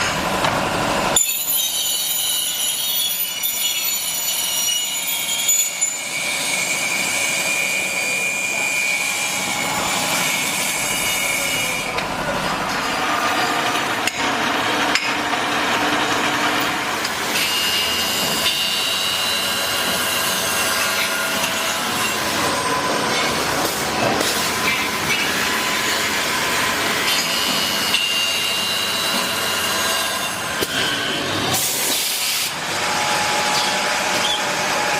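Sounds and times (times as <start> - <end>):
cnc machine cutting metal: 0.0 - 34.9.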